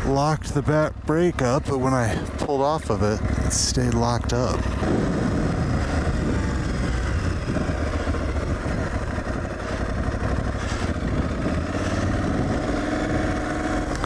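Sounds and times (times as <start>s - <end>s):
motorcycle engine running: 0.0s - 14.0s
wind and tyre noise: 0.0s - 14.0s.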